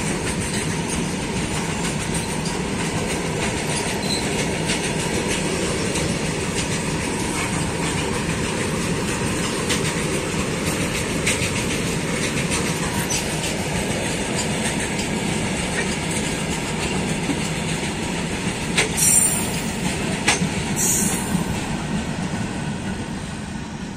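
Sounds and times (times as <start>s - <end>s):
train wheels rumbling and clattering: 0.0s - 23.9s.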